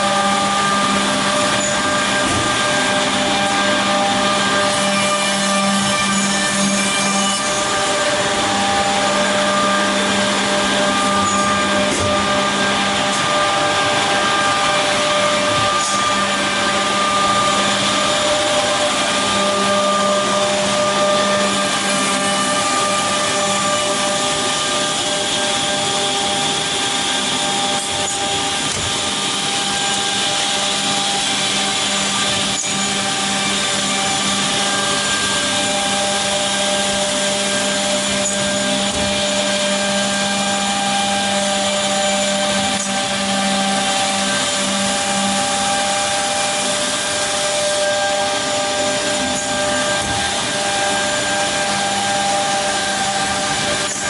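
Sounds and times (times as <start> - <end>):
machine whirring: 0.0 - 54.0.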